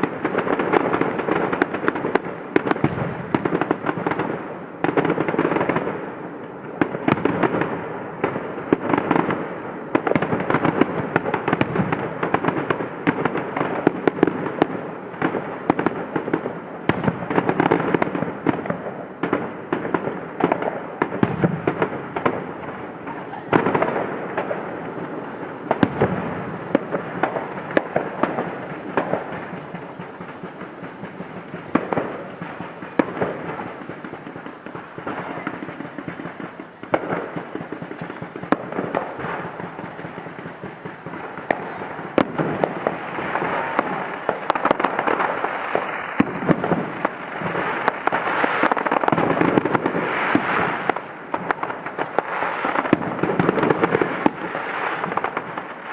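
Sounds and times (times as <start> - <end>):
fireworks banging and crackling: 0.0 - 55.9
loud single firework bangs: 0.0 - 55.9.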